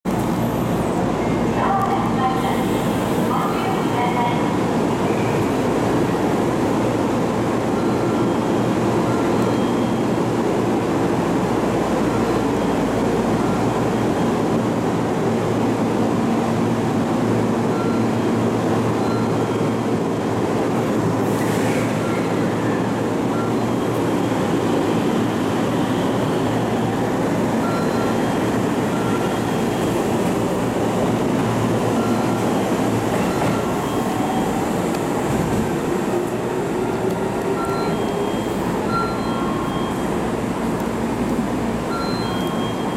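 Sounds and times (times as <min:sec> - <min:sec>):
rumble of train and station: 0:00.0 - 0:42.9
train doors closing: 0:00.1 - 0:42.9.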